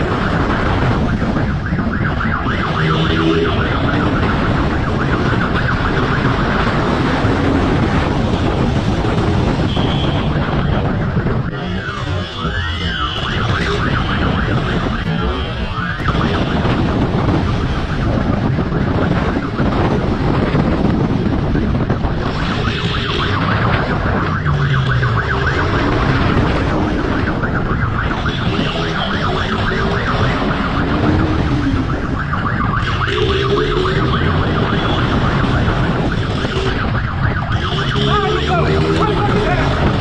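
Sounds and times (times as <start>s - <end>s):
siren wailing: 0.0s - 40.0s
vehicle and road noise: 0.0s - 40.0s.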